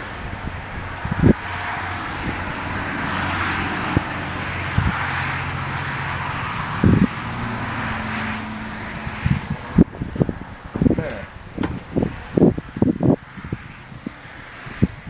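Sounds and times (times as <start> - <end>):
wind-like rushing noise: 0.0 - 15.0.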